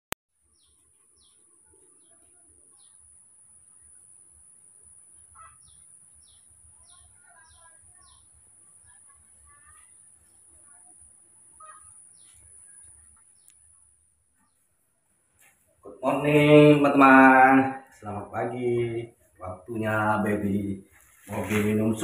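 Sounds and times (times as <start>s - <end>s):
faint birdsong: 0.4s - 22.0s.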